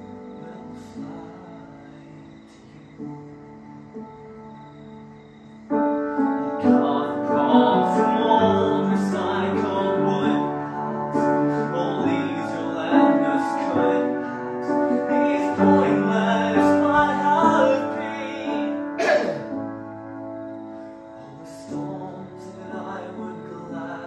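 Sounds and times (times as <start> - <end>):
grand piano playing loud chords: 0.0 - 24.0.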